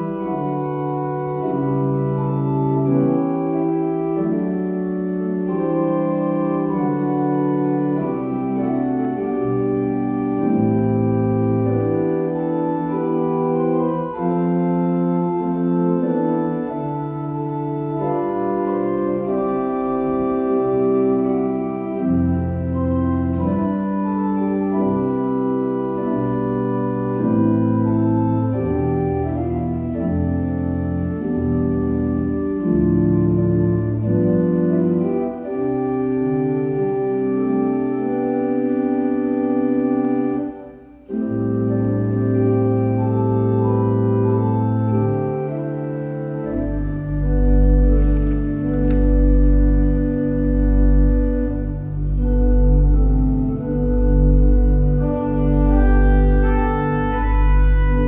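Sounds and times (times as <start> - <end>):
church organ chords: 0.0 - 58.0
deep organ pedal bass: 0.0 - 58.0.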